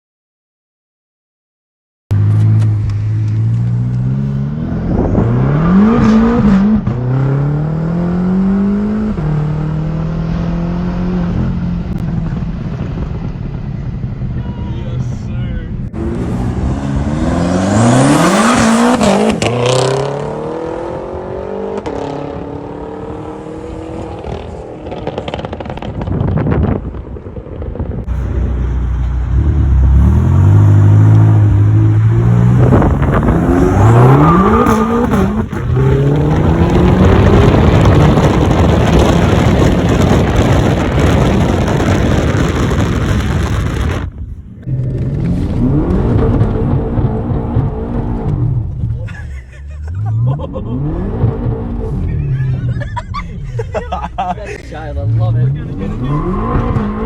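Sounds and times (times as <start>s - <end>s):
wind rush and tyre noise: 2.2s - 7.4s, 8.2s - 49.2s
car engine accelerating hard: 2.2s - 14.4s, 15.8s - 27.3s, 27.9s - 57.0s.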